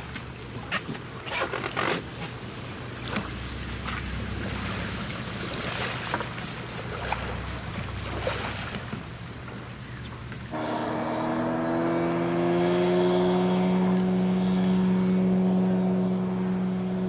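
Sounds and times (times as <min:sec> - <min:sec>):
outboard motor running: 0:00.0 - 0:17.0
wind and water noise: 0:00.0 - 0:17.0.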